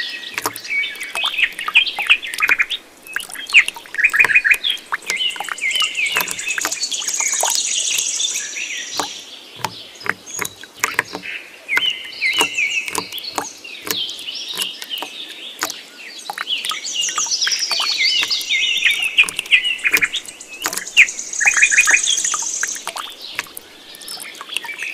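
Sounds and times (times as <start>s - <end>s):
birds chirping and twittering: 0.0s - 24.9s.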